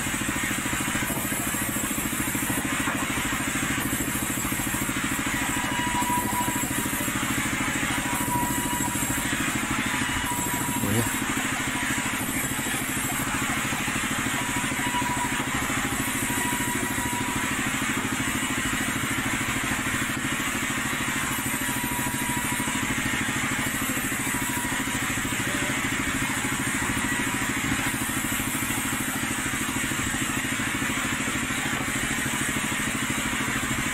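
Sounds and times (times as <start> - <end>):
sawmill machinery droning: 0.0 - 33.9.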